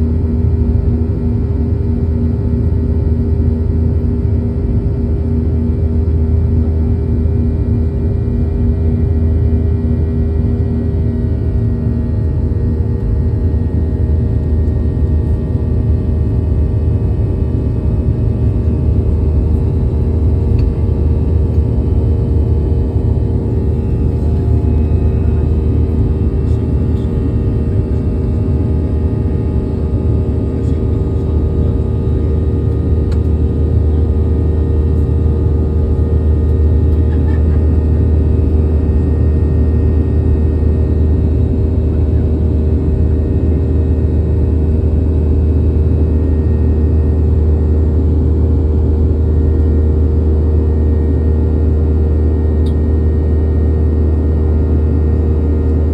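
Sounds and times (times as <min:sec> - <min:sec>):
jet engines running: 0:10.1 - 0:55.9.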